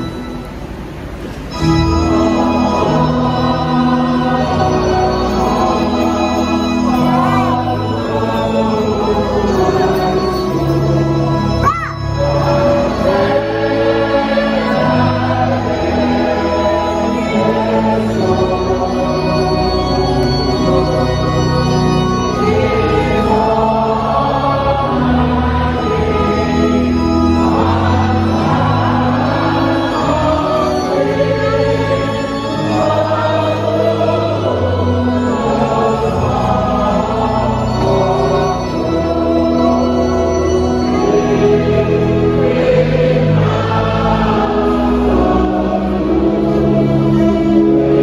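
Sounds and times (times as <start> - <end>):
church choir singing a hymn: 0.0 - 48.0
organ: 0.0 - 48.0.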